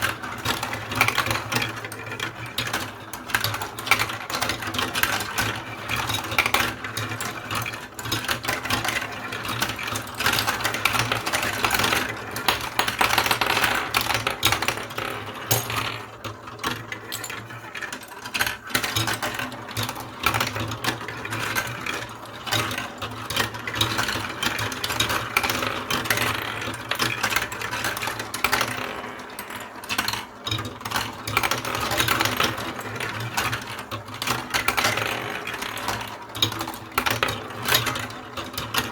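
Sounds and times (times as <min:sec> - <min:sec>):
marbles rattling down marble run: 0:00.0 - 0:38.9.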